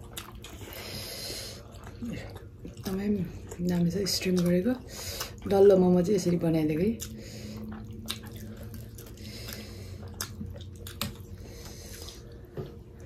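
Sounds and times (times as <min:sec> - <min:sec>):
people chewing wetly: 0:00.0 - 0:13.0.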